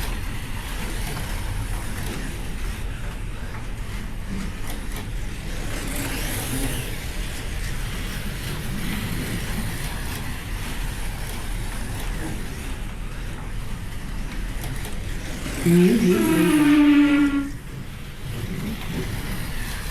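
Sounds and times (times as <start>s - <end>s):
slot cars running: 0.0s - 19.9s.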